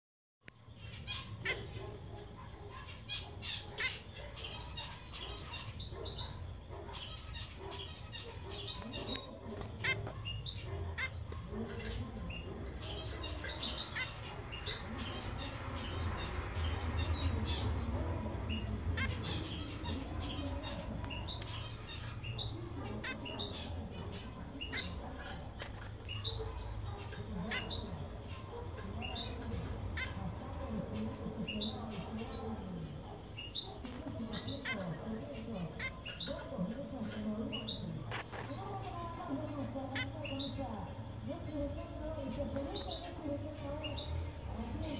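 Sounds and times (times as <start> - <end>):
finches giving sharp calls: 0.7 - 44.9.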